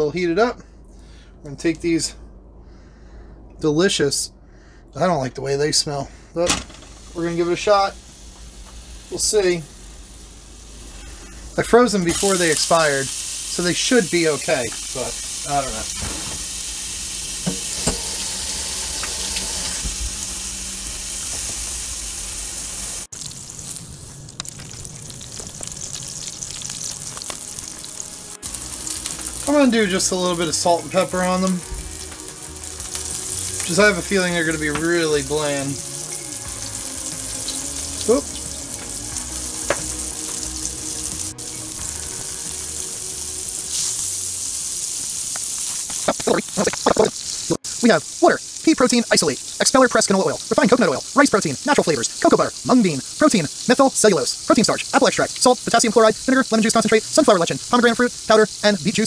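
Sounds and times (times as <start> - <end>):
patties sizzling in oil: 6.7 - 59.0.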